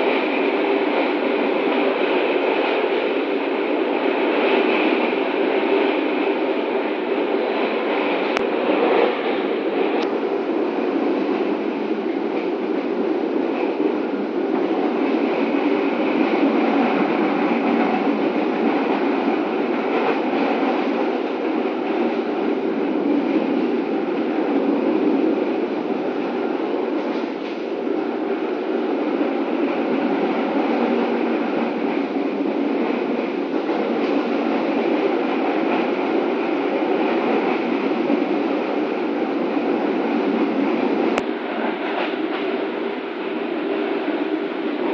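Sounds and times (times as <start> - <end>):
train wheels running on rails: 0.0 - 44.9.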